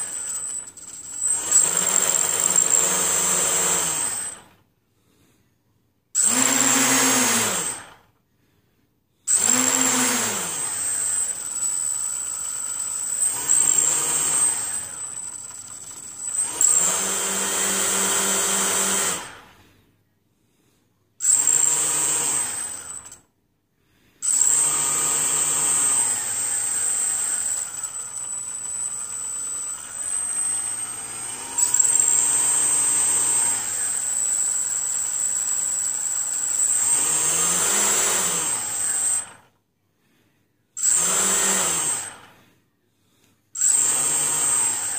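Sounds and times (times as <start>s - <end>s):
quadcopter motors spinning up: 0.0s - 4.5s, 6.2s - 8.0s, 9.3s - 19.5s, 21.2s - 23.2s, 24.2s - 39.5s, 40.8s - 42.3s, 43.6s - 44.9s.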